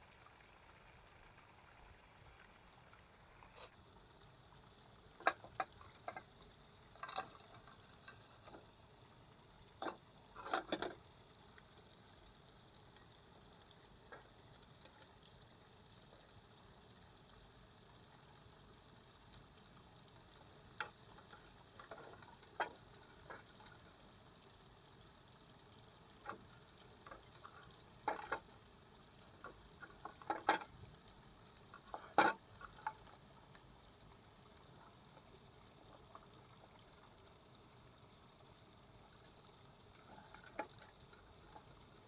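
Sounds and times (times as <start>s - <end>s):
faint steady hiss: 0.0s - 42.0s.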